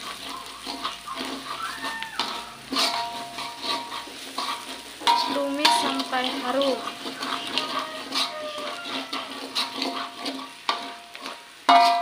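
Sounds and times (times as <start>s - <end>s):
metal spatula scraping a wok: 0.0s - 12.0s
shallots and garlic sizzling in oil: 0.0s - 12.0s
spatula striking ringing wok: 0.2s - 12.0s.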